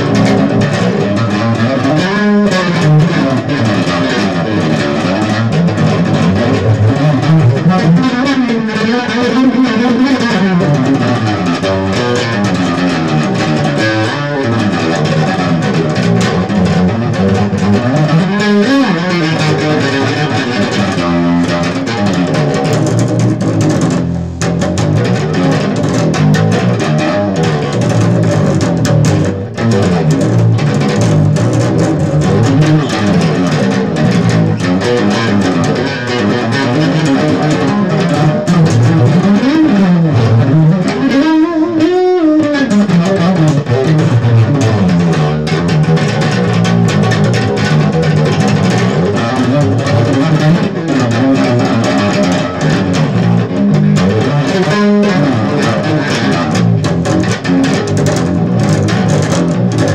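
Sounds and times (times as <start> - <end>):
electric bass guitar plucked solo: 0.0 - 59.9.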